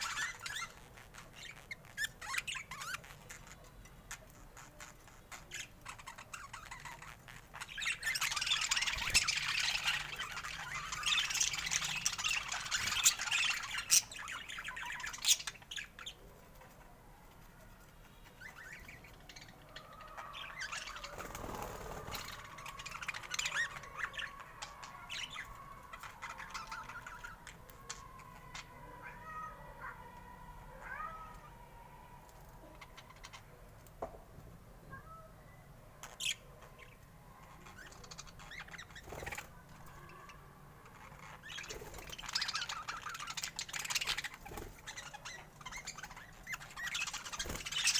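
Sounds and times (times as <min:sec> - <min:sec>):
budgerigars chattering: 0:00.0 - 0:16.2, 0:18.1 - 0:30.2, 0:37.6 - 0:47.9.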